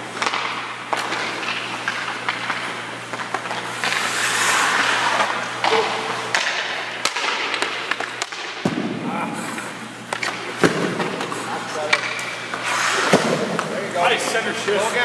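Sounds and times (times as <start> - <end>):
steady low hum: 0.0 - 15.0
skate blades scraping ice: 0.2 - 8.6, 9.4 - 15.0.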